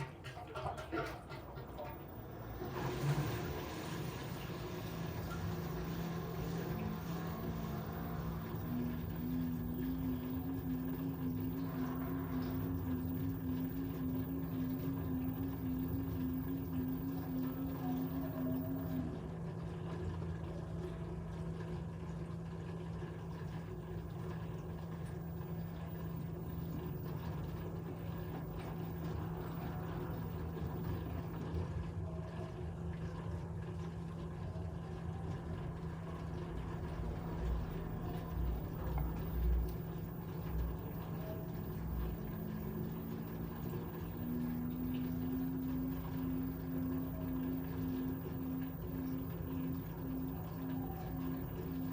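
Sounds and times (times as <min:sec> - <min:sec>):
washing machine motor hum: 0:00.0 - 0:51.9.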